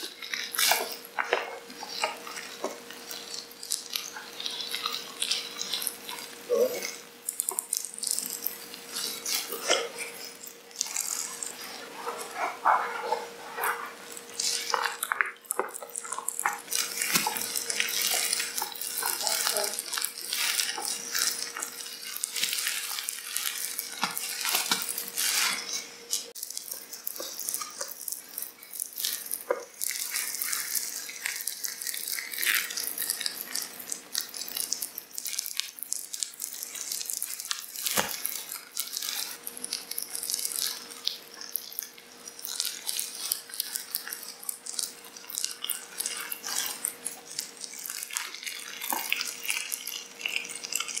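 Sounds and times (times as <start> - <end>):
wet squelching and clicks: 0.0 - 51.0.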